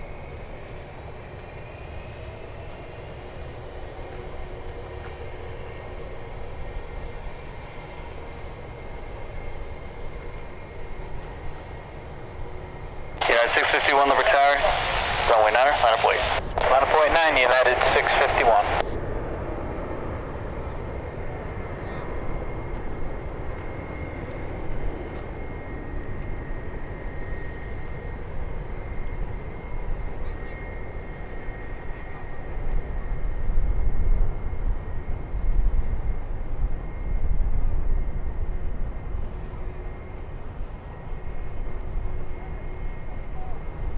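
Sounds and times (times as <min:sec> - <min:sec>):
high-pitched engine whine: 0:00.0 - 0:43.9
jet engines rumbling: 0:00.0 - 0:43.9.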